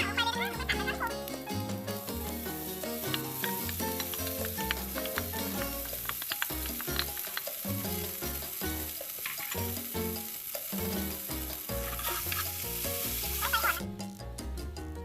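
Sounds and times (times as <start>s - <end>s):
food sizzling in a frying pan: 0.0s - 14.3s.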